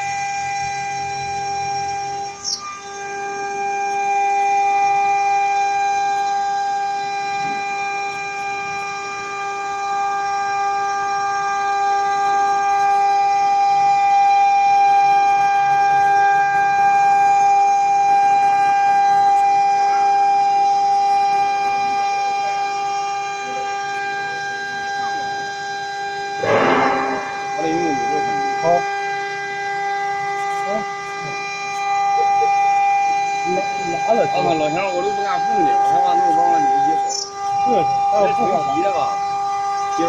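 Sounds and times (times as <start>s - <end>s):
cnc router spindle whine: 0.0s - 40.0s.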